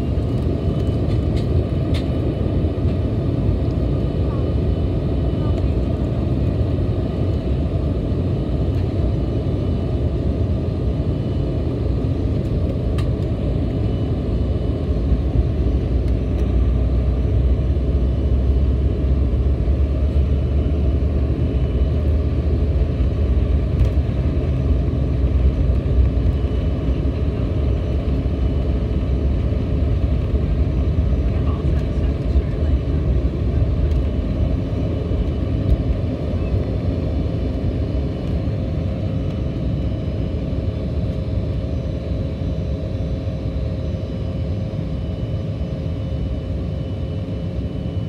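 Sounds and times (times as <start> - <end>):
jet engines rumbling: 0.0 - 48.0.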